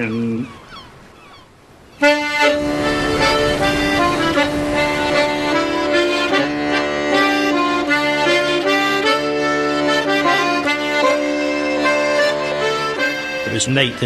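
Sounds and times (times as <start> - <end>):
accordion folk tune: 2.0 - 14.0.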